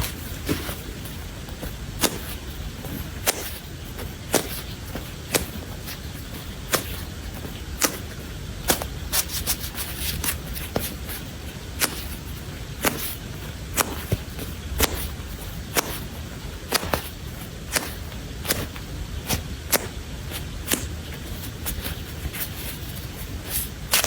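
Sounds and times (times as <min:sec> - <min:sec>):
steady low background noise: 0:00.0 - 0:24.0.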